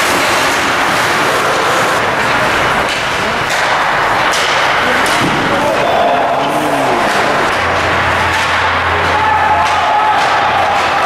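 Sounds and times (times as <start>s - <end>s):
loud hiss of rink noise: 0.0s - 11.0s
puck hitting boards: 0.0s - 11.0s.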